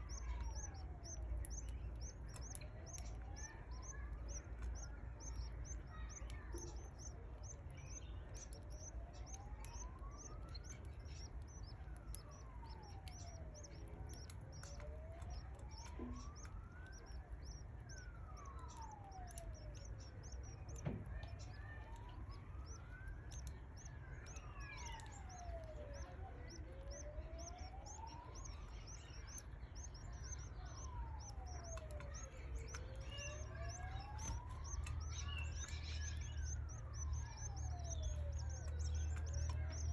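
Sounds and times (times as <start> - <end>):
chicks cheeping: 0.0 - 39.9
siren wailing: 0.0 - 39.9.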